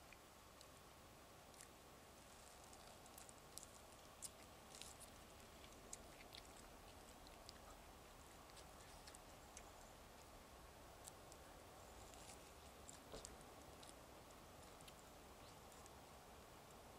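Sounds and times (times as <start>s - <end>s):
low steady hiss: 0.0s - 16.9s
person chewing food: 1.5s - 10.3s, 11.0s - 16.0s.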